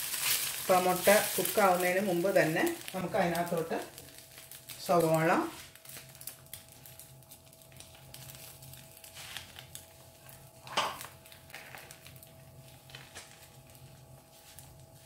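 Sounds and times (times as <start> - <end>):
faint frying pan noise: 0.0 - 15.0
low steady hum: 0.0 - 15.0.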